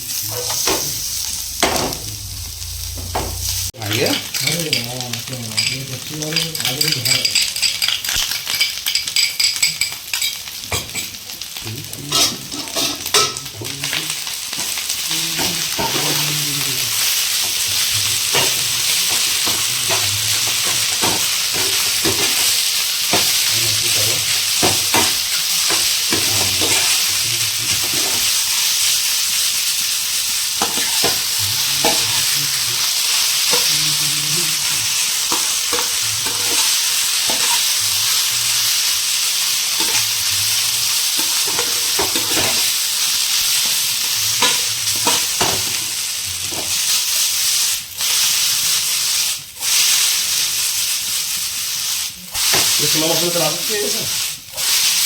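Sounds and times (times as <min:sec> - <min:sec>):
rice sizzling in a hot pan: 0:00.0 - 0:55.0.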